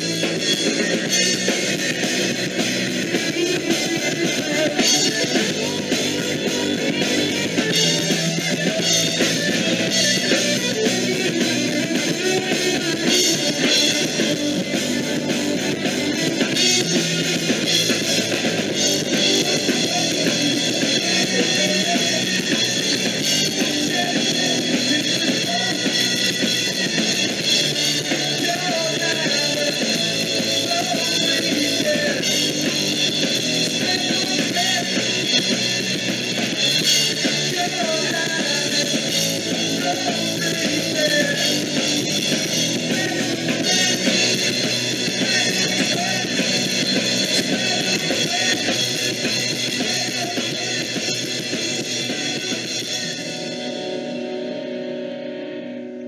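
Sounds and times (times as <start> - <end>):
drum kit playing: 0.0 - 56.0
electric guitar: 0.0 - 56.0.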